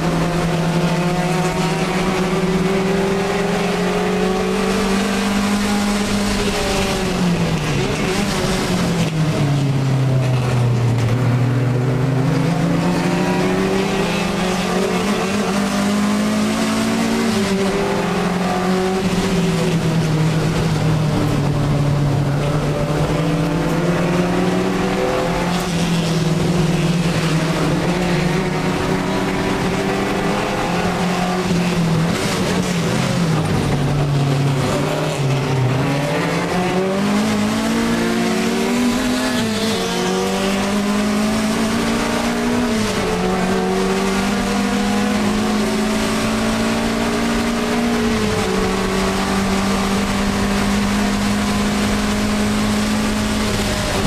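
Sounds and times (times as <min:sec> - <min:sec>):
car engine racing: 0:00.0 - 0:54.0.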